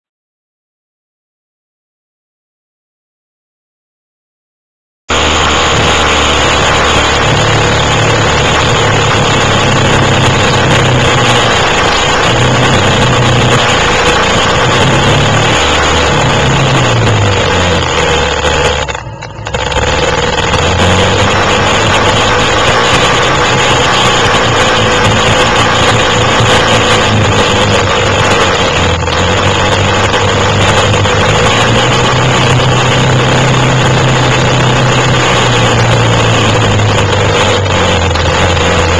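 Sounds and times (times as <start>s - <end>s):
quad bike engine revving: 5.1s - 38.9s
steady rushing noise: 5.1s - 38.9s.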